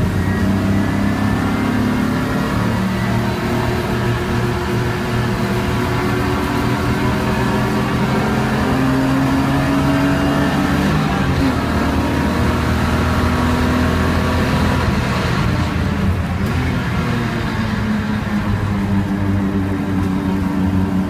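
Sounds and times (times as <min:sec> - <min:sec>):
race car engine at high revs: 0:00.0 - 0:21.0
road and wind noise: 0:00.0 - 0:21.0.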